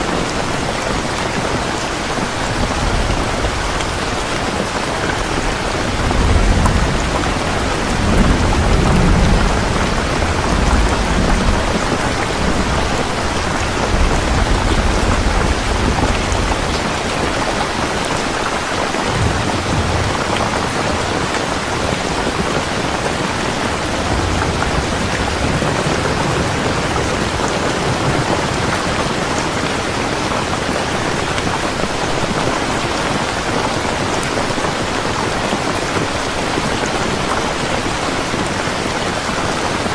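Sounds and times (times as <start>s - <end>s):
heavy rain falling: 0.0s - 39.9s
rolling thunder: 1.0s - 33.4s.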